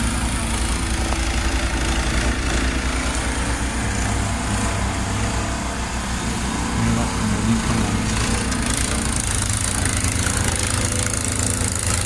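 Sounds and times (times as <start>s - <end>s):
snow-clearing machine engine running: 0.0s - 12.0s.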